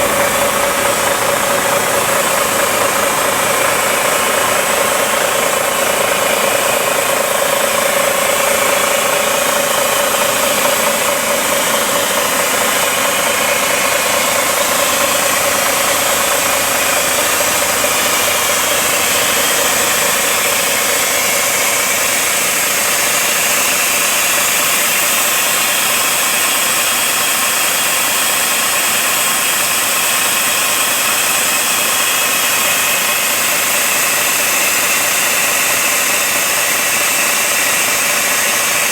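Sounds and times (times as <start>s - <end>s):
air hissing from tyres: 0.0s - 26.4s, 29.7s - 38.9s
truck engine running: 0.0s - 38.9s.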